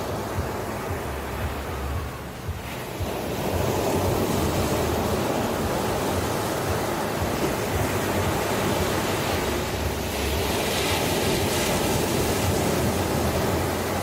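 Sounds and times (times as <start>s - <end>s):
ocean waves breaking on shore: 0.0s - 14.0s.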